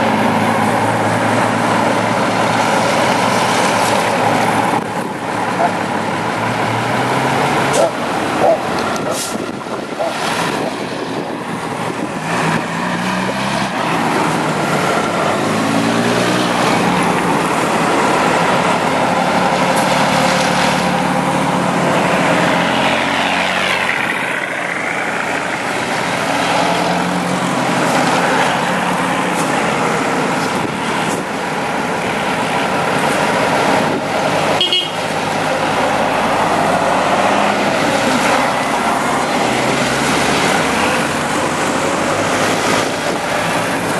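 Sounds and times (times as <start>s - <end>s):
trucks driving past: 0.0s - 43.9s.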